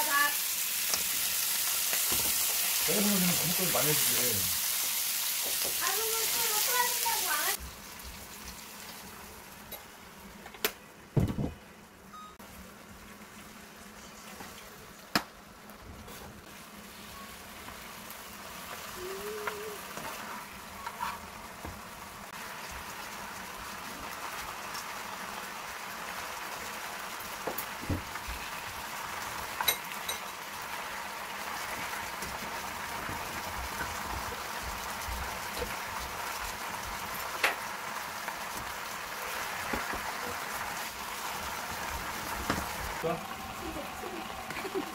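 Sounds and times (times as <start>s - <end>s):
bacon sizzling in a pan: 0.0s - 10.5s, 12.4s - 44.9s.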